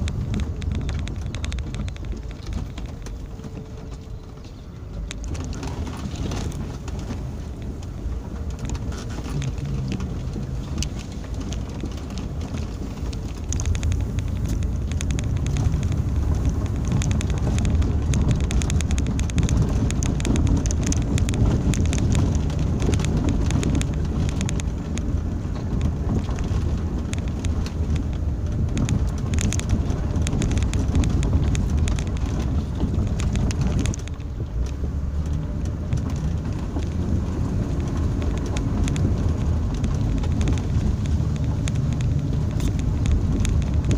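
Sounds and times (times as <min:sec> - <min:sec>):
car engine and tyres rumble: 0:00.0 - 0:43.9
clicks and knocks from rough ride: 0:00.0 - 0:43.9.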